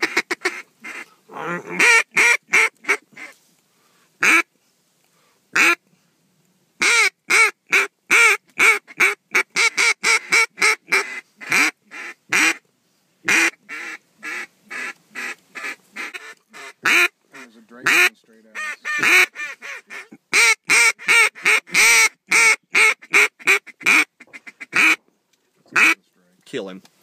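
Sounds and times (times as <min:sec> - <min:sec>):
duck call quacks: 0:00.0 - 0:03.4, 0:04.2 - 0:04.5, 0:05.6 - 0:05.8, 0:06.8 - 0:12.6, 0:13.3 - 0:25.0, 0:25.7 - 0:26.0.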